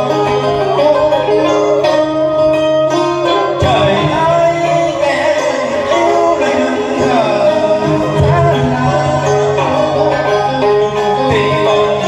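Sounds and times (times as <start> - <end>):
steady bass accompaniment: 0.0 - 12.0
wavering melody line: 0.0 - 12.0.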